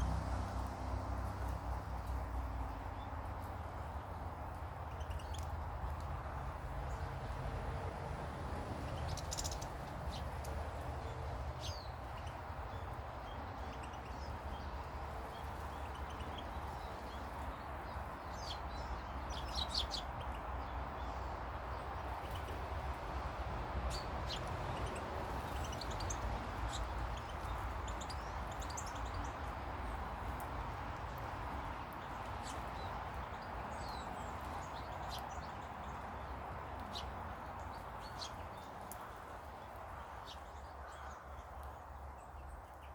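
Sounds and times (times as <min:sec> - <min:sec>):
small birds chirping: 0:00.0 - 0:07.6, 0:08.5 - 0:42.9.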